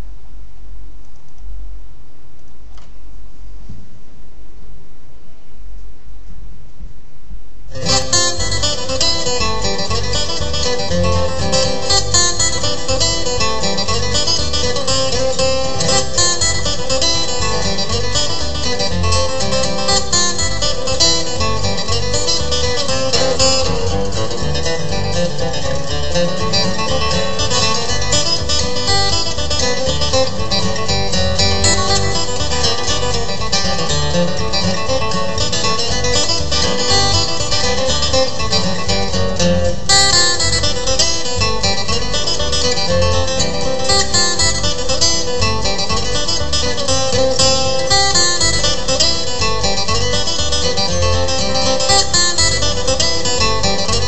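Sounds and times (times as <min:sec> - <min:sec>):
acoustic guitar bluegrass reel: 0:07.7 - 0:54.0.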